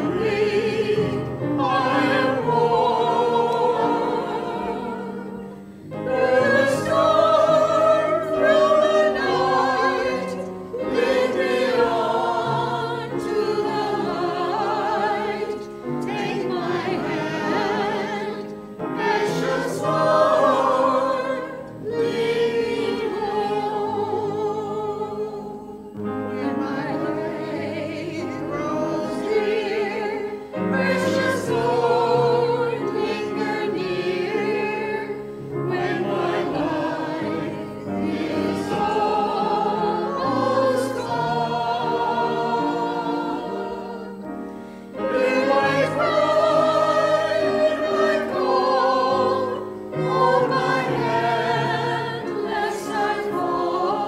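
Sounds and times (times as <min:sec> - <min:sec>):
choir singing with vibrato: 0:00.0 - 0:54.0.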